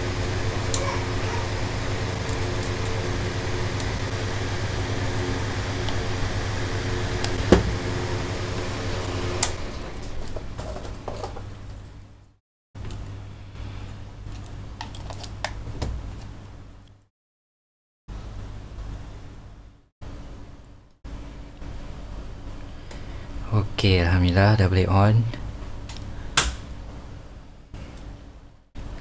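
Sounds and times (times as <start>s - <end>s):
small electric fan humming: 0.0s - 16.8s, 18.1s - 29.0s.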